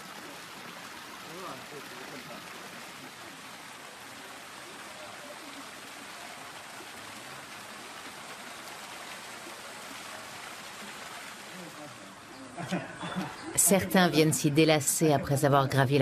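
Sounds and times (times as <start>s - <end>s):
water pouring into a pool: 0.0s - 13.5s.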